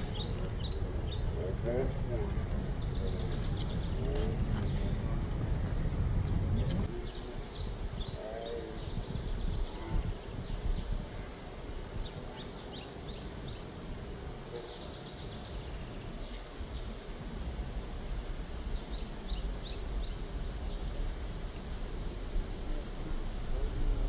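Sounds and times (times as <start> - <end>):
birds chirping: 0.0 - 21.9
low rumble: 0.0 - 24.0
steady background hiss: 0.0 - 24.0.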